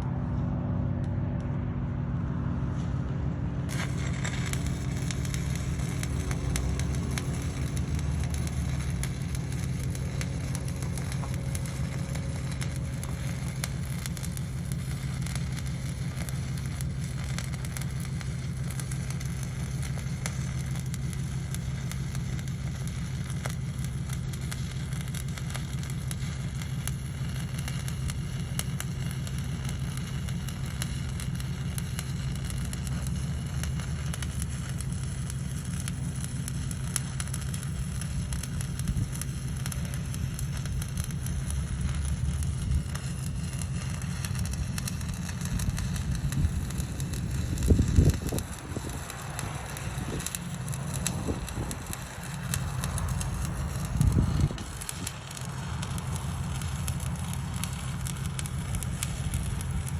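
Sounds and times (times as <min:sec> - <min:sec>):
steady low hum: 0:00.0 - 0:59.9
welding arc crackling: 0:03.7 - 0:59.9.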